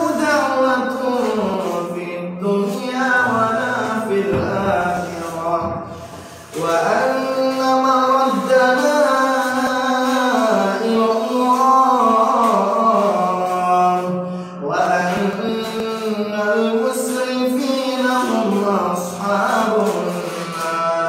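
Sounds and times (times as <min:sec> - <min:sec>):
man chanting melodically: 0:00.0 - 0:21.0.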